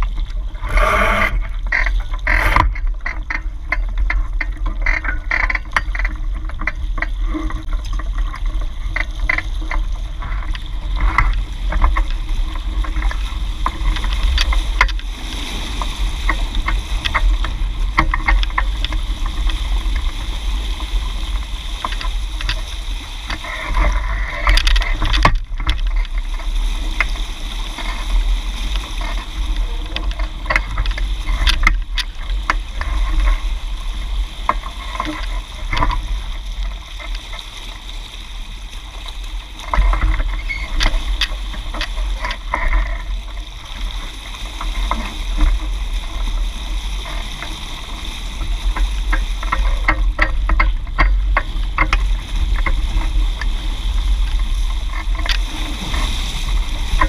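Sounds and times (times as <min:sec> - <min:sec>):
water splashes: 0:00.0 - 0:57.0.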